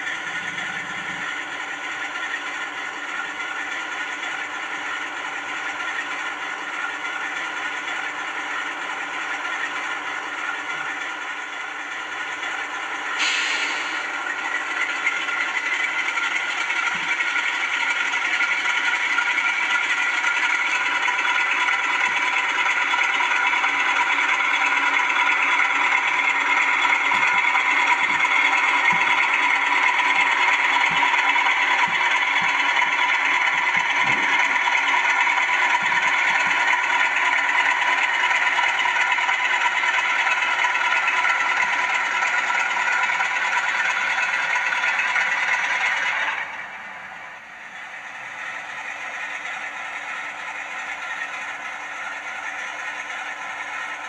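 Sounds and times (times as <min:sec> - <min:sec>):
diesel engine drone from speakers: 0:00.0 - 0:54.0
whistling turbocharger tone: 0:00.0 - 0:54.0.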